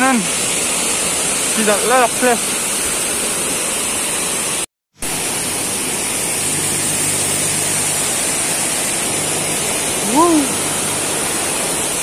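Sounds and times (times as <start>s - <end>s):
waterfall and rapids rushing: 0.0s - 12.0s.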